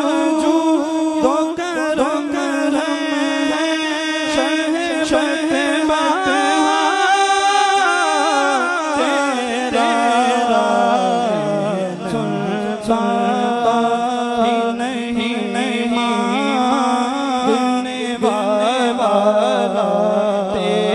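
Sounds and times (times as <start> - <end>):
man singing into a microphone: 0.0 - 20.9.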